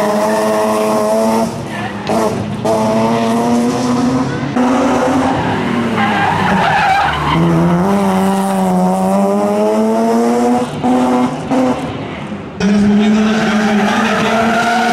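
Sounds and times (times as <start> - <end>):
car engine at high revs: 0.0 - 14.9.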